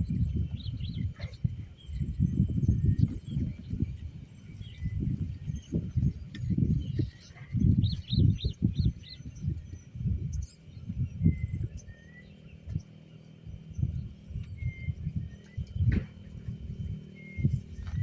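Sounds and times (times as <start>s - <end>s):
birds chirping: 0.0s - 18.0s
low rumbles and thumps: 0.0s - 18.0s.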